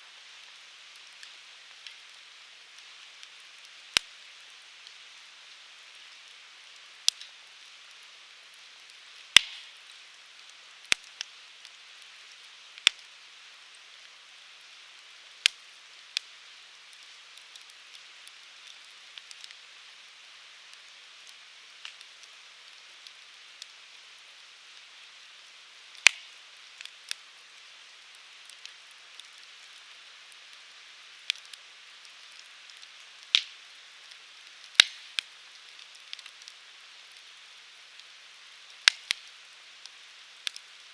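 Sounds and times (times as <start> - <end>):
firewood crackling and popping: 0.0 - 40.9.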